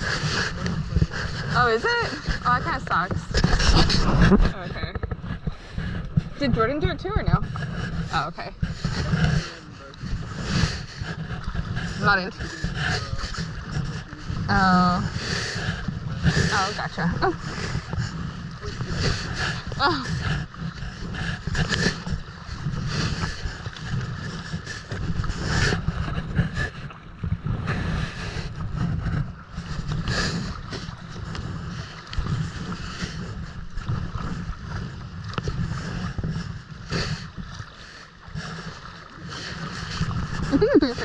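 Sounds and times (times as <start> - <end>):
water splashing around kayak: 0.0 - 41.0
wind rumbling on microphone: 0.0 - 41.0.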